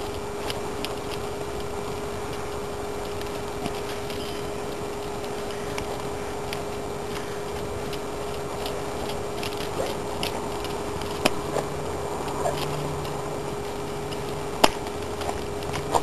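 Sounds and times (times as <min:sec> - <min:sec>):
horse hooves clicking: 0:00.0 - 0:16.0
low hum: 0:00.0 - 0:16.0
steady hiss: 0:00.0 - 0:16.0.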